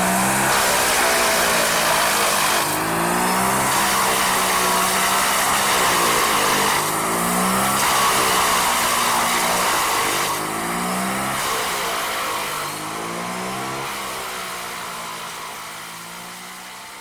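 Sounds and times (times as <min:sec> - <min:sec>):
heavy machinery running: 0:00.0 - 0:17.0.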